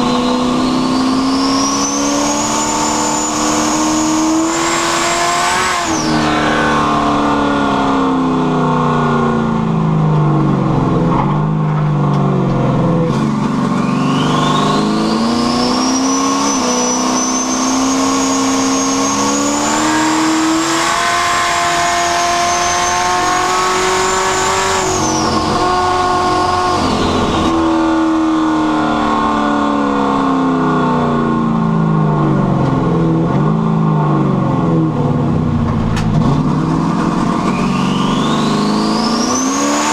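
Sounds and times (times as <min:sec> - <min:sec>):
car engine under load: 0:00.0 - 0:39.9
high turbo whine: 0:00.0 - 0:39.9.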